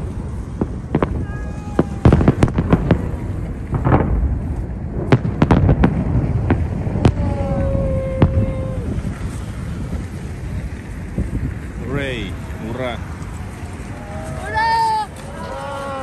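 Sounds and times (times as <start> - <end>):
firework bangs: 0.0 - 15.4
steady low rumble: 0.0 - 16.0.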